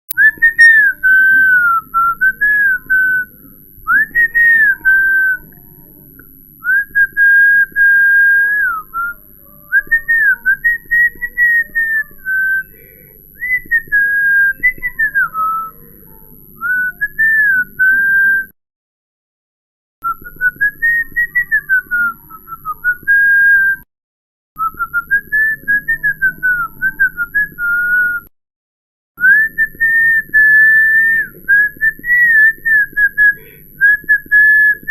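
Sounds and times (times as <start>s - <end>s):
person whistling: 0.0s - 5.6s, 6.6s - 9.2s, 9.8s - 15.8s, 16.6s - 18.6s, 20.0s - 23.9s, 24.6s - 28.3s, 29.2s - 34.9s.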